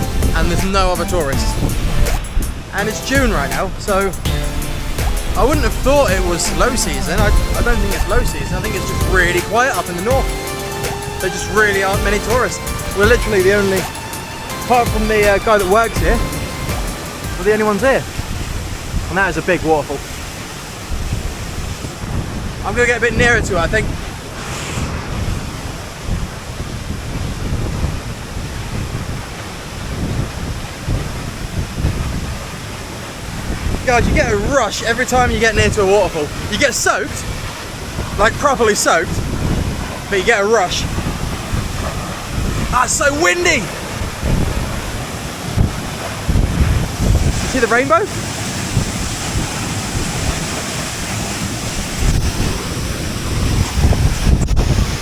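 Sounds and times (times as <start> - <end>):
waterfall roaring: 0.0 - 55.0
wind buffeting microphone: 0.0 - 55.0.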